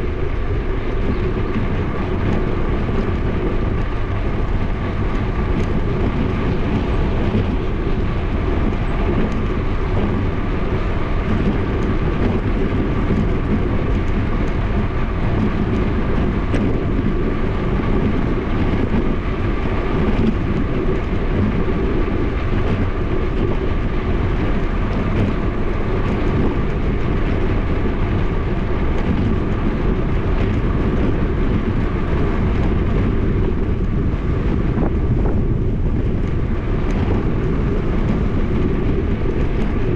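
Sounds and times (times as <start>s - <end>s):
tyres running on asphalt: 0.0s - 39.9s
wind buffeting microphone: 0.0s - 39.9s.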